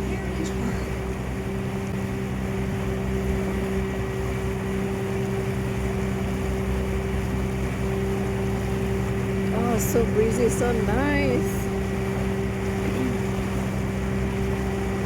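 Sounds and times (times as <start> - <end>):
ferry engine drone: 0.0 - 15.0.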